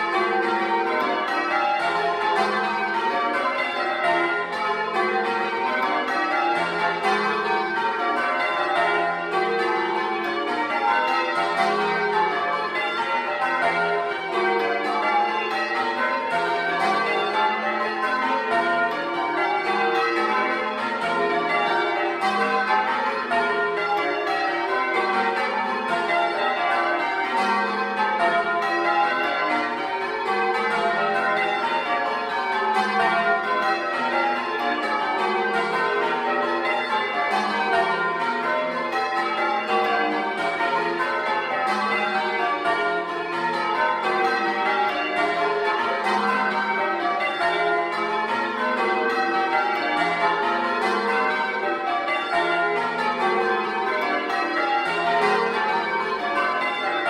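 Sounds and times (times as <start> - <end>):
church bells change-ringing: 0.0 - 57.0.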